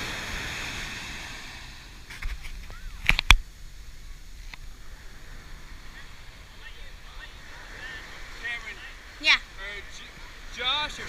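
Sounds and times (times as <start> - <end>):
surf washing in: 0.0 - 11.0.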